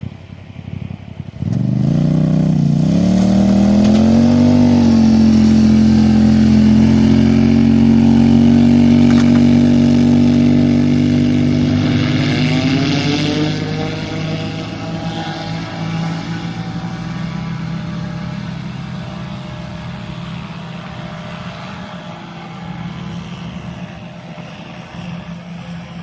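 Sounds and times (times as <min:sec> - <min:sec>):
engine starting and running: 0:00.3 - 0:26.0.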